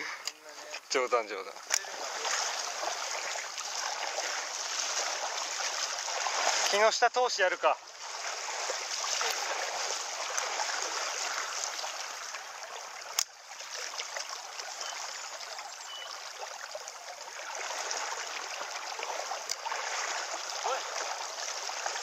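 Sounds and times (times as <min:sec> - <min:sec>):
river current flowing: 0:00.0 - 0:22.0.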